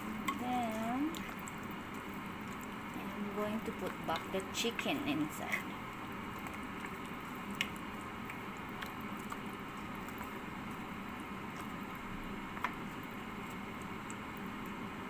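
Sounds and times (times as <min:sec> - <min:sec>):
pot simmering: 0:00.0 - 0:15.0
soft squishy food sounds: 0:00.0 - 0:15.0.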